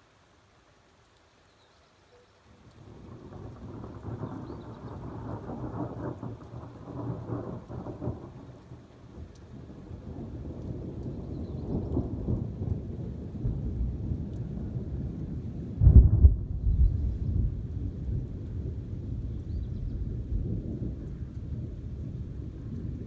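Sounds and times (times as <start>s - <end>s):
rolling thunder: 2.9s - 23.0s.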